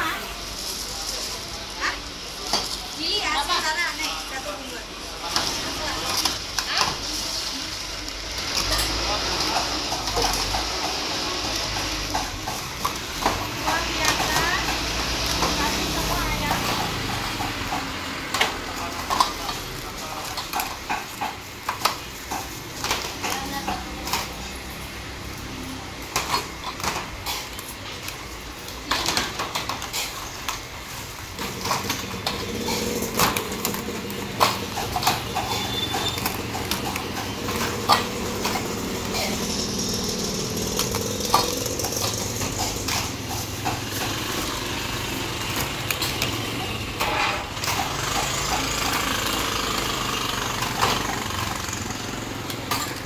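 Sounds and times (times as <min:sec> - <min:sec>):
metal cups clinking: 0:08.6 - 0:53.0.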